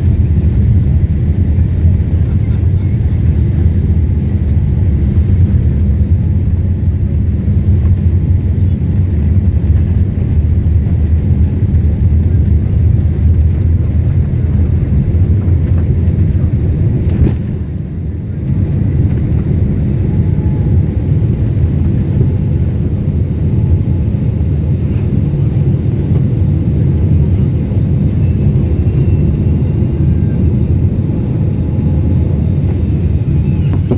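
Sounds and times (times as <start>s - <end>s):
airplane engines rumbling: 0.0s - 33.9s.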